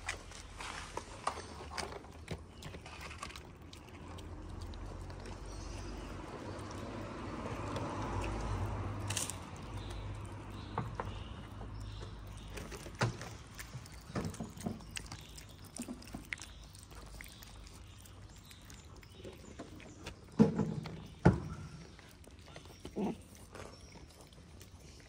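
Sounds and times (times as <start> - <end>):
cats chewing: 0.0 - 25.0.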